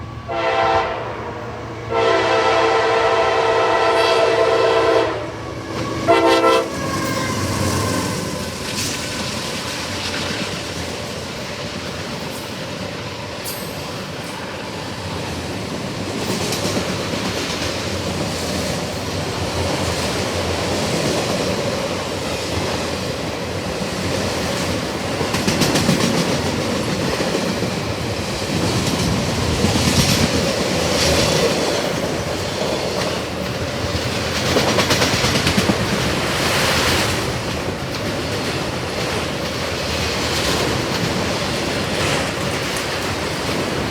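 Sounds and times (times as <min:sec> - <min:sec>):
freight train rolling past: 0:00.0 - 0:43.9
steel wheels clacking on rail joints: 0:05.6 - 0:43.9.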